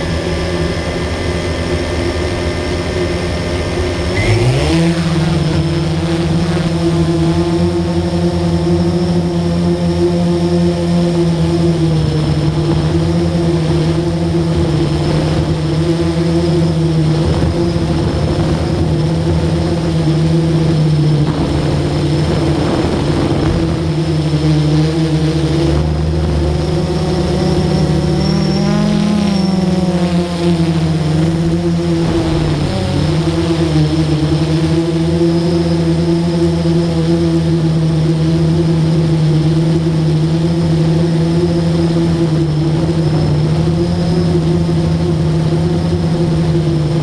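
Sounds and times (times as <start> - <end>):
drone propellers humming: 0.0 - 47.0.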